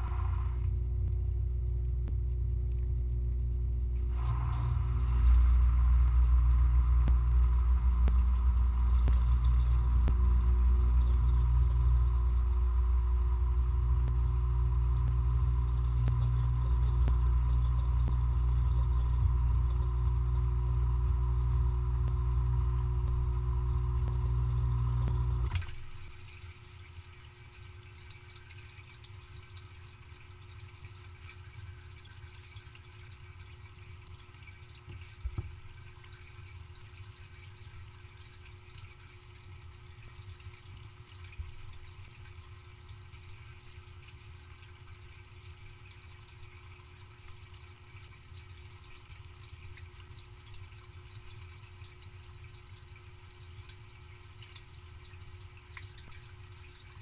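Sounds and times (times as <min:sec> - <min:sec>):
dishwasher pump motor humming: 0:00.0 - 0:57.0
faint water sounds in machine: 0:00.0 - 0:57.0.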